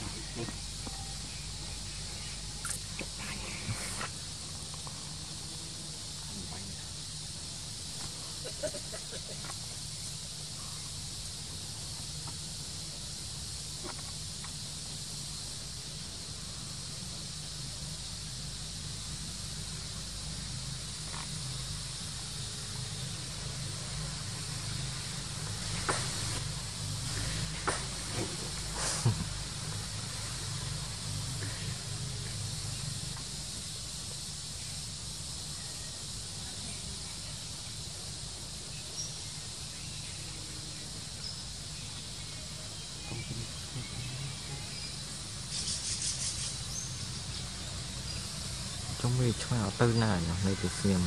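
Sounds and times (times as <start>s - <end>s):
high hiss: 0.0s - 51.0s.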